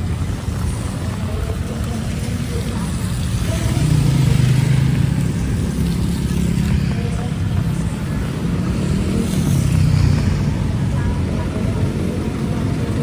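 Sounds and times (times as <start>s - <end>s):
heavy rain: 0.0s - 13.0s
vehicle engine droning: 0.0s - 13.0s.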